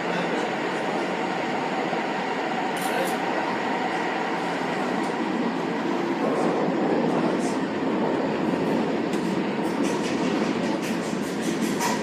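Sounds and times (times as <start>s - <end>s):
train rumbling through tunnel: 0.0s - 12.0s.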